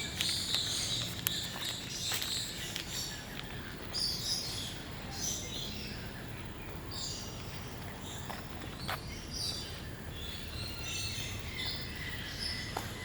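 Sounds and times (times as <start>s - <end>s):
birds chirping and calling: 0.0s - 13.0s
steady background hiss: 0.0s - 13.0s.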